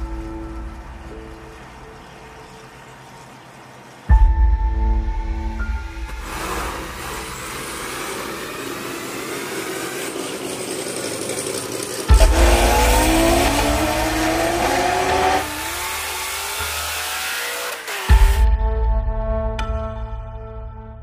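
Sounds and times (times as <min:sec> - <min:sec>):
car engines at full throttle: 0:00.0 - 0:04.3, 0:05.7 - 0:18.5.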